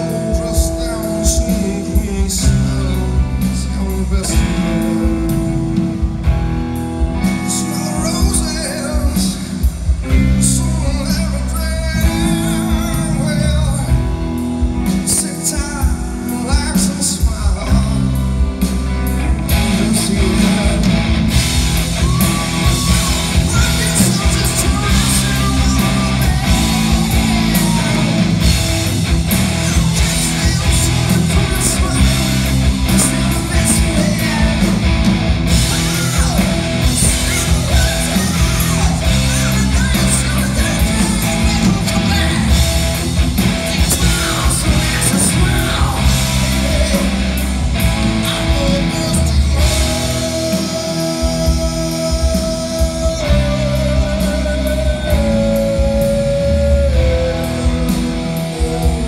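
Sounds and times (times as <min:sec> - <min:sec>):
metal band playing live: 0:00.0 - 0:59.0
person singing lead vocals: 0:00.0 - 0:59.0.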